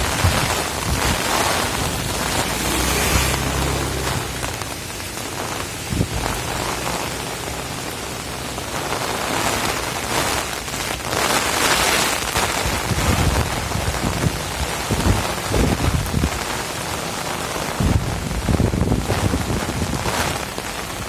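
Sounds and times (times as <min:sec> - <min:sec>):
heavy rain pouring: 0:00.0 - 0:21.0
low rumbling wind: 0:00.0 - 0:21.0.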